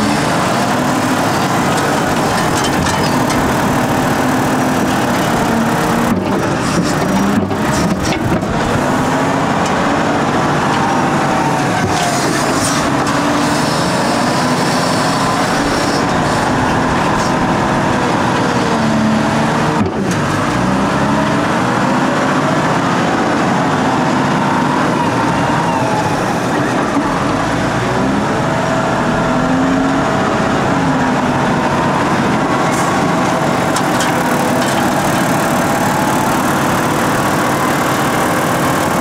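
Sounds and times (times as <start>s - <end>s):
wheel loader diesel engine: 0.0s - 39.0s.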